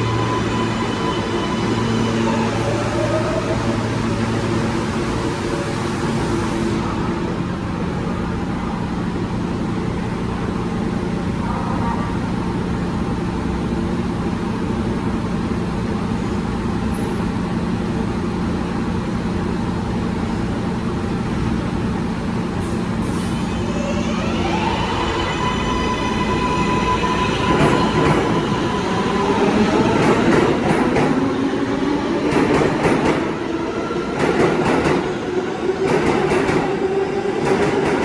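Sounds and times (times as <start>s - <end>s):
subway train electrical hum and rumble: 0.0s - 38.0s.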